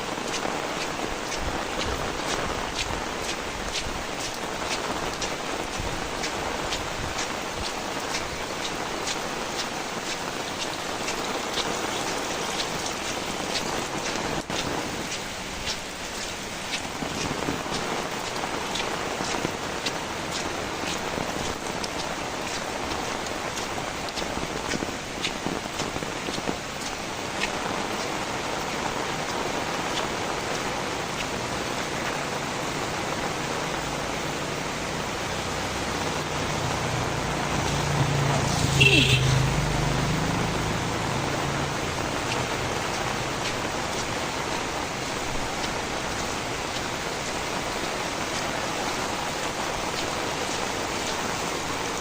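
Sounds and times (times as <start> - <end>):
close raindrops ticking: 0.0 - 52.0
steady rain falling: 0.0 - 52.0.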